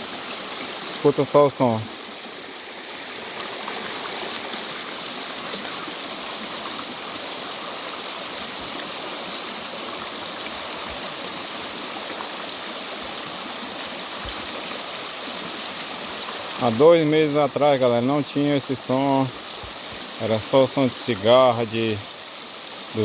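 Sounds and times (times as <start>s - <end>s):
creek water splashing and gurgling: 0.0s - 23.0s.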